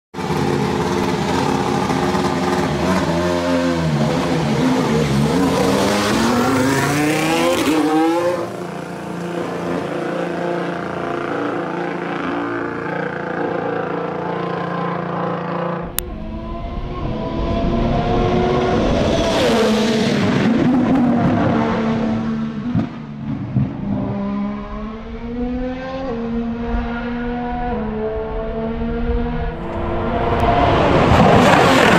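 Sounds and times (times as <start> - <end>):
racing car engine: 0.2 - 31.9.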